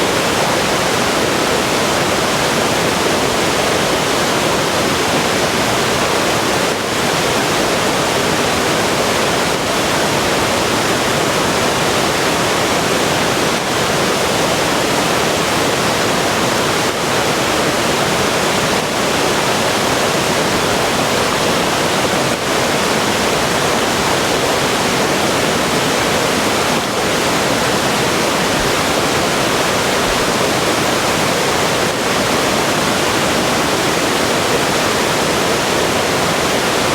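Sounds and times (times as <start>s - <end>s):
river water flowing over rocks: 0.0s - 36.9s.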